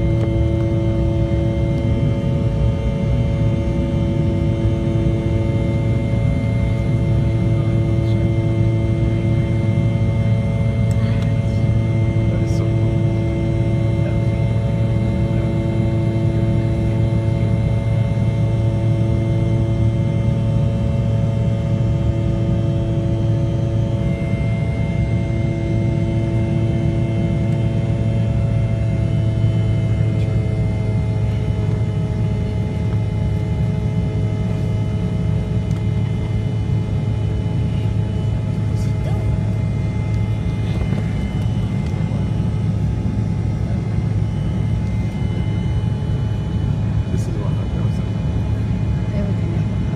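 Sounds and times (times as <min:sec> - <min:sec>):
jet engine and airflow roar: 0:00.0 - 0:49.9
steady whining tones: 0:00.0 - 0:49.9.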